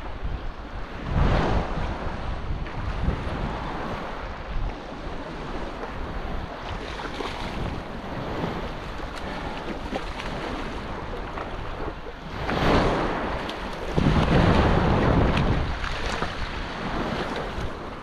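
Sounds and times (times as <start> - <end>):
wind buffeting microphone: 0.0 - 18.0
small waves washing: 0.9 - 18.0.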